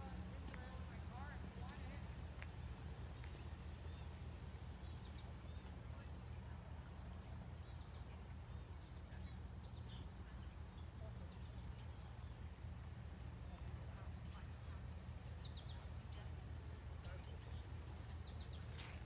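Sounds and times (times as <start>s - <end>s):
crickets chirping: 0.0s - 19.0s
low steady rumble: 0.0s - 19.0s.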